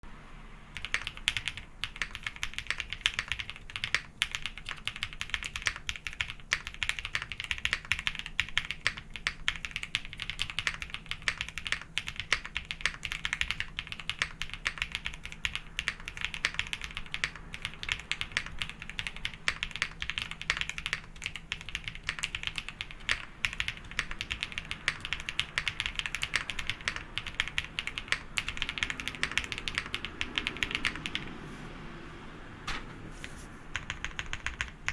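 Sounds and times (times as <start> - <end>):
mechanical keyboard typing: 0.7 - 31.4, 33.7 - 34.9.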